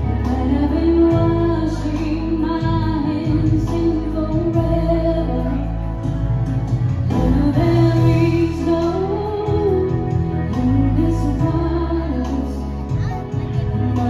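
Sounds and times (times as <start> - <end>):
woman singing into microphone: 0.0 - 6.3, 6.9 - 14.0
instrumental accompaniment with bass: 0.0 - 14.0.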